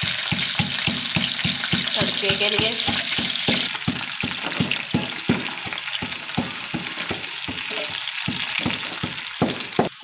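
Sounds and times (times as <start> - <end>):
onions sizzling in hot oil: 0.0 - 10.0
pestle pounding in a mortar: 0.0 - 10.0.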